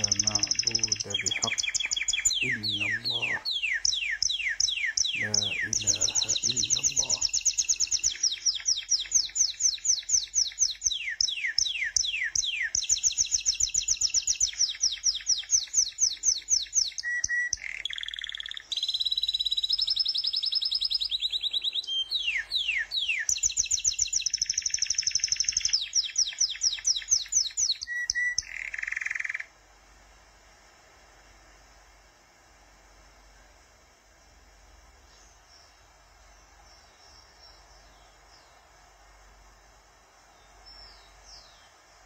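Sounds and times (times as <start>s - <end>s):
songbird singing: 0.0s - 42.0s.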